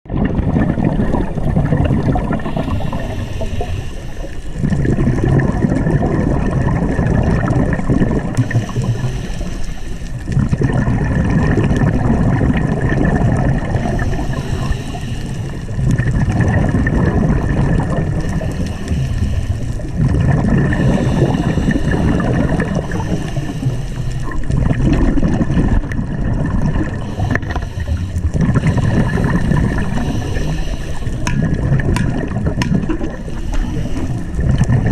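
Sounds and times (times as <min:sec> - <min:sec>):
underwater breath bubbling: 0:00.1 - 0:34.9.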